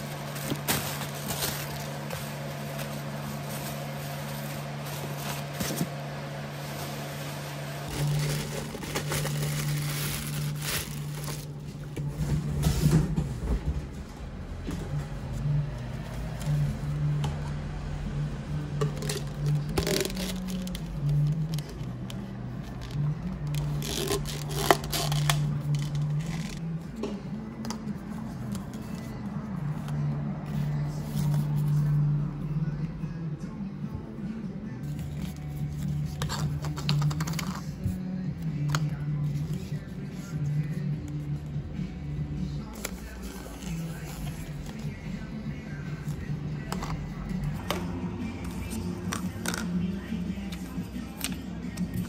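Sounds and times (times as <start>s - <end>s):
plastic packaging and cups handled: 0.0s - 13.6s, 18.8s - 32.2s, 34.8s - 41.3s, 42.5s - 52.0s
low continuous drone: 0.0s - 52.0s.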